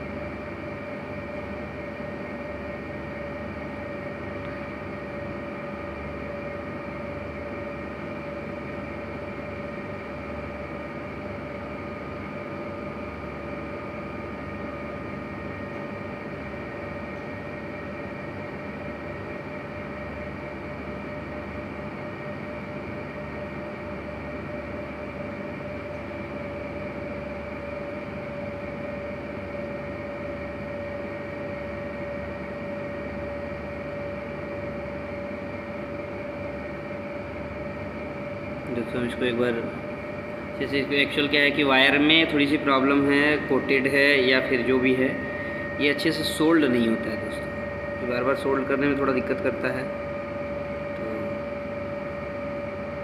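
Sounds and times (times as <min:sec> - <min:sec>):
machine hum with high whine: 0:00.0 - 0:53.0.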